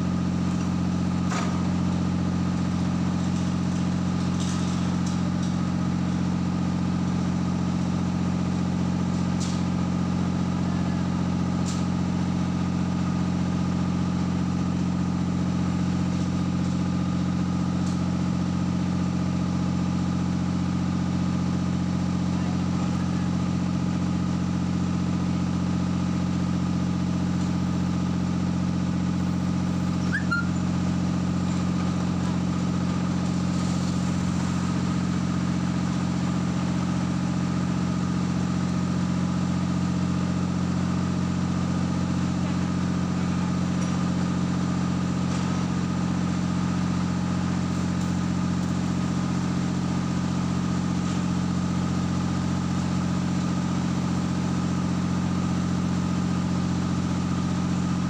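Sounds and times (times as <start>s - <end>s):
heavy machinery engine idling: 0.0s - 58.0s.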